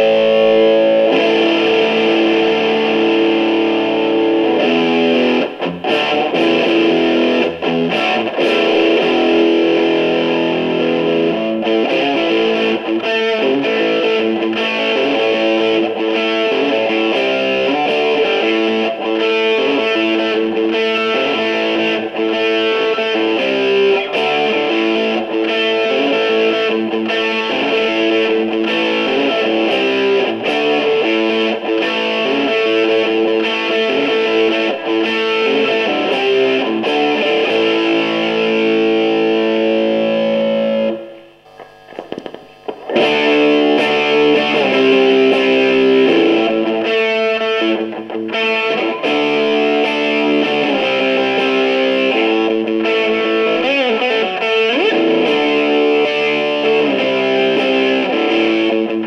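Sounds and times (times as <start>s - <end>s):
overdriven electric guitar: 0.0s - 59.0s.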